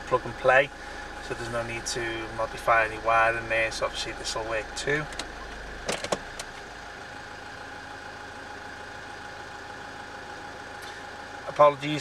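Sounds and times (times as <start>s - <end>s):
car cabin engine hum: 0.0s - 12.0s.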